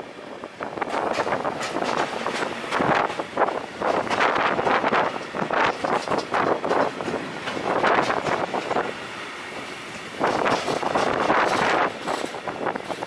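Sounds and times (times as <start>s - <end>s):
freight train rolling past: 0.0s - 13.0s
wind buffeting microphone: 0.0s - 13.0s.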